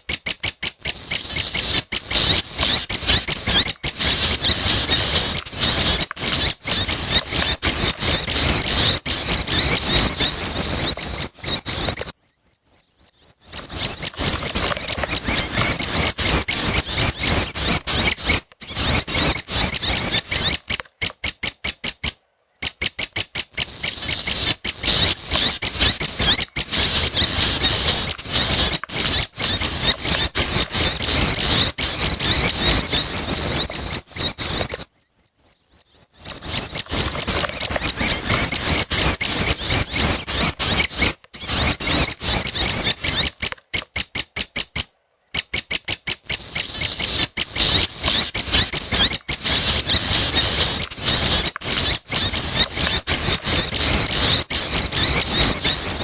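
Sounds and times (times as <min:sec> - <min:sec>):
young bird begging calls: 0:00.0 - 0:12.8, 0:13.4 - 0:21.3, 0:22.7 - 0:34.8, 0:36.1 - 0:44.8, 0:45.4 - 0:56.0.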